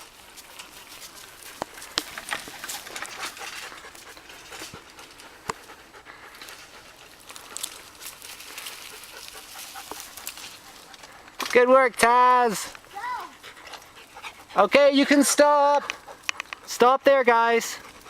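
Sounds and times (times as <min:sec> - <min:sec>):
dog panting: 0:00.0 - 0:11.4, 0:12.6 - 0:17.0, 0:17.6 - 0:18.0.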